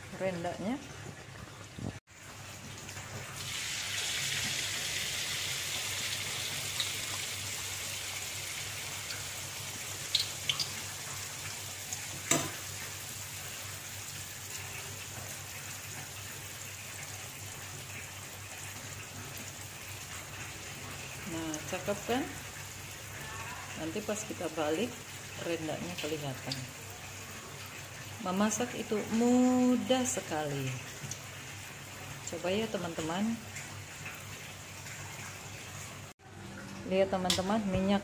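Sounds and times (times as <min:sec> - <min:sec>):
batter sizzling in hot oil: 0:02.1 - 0:36.1.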